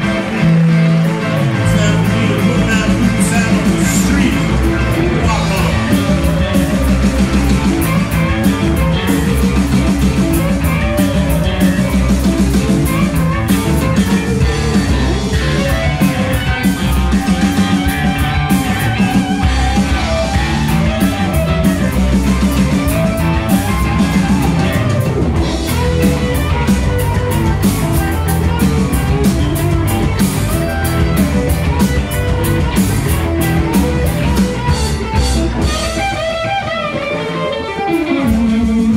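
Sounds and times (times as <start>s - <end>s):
drum kit steady beat: 0.0s - 38.9s
electric guitar: 0.0s - 38.9s.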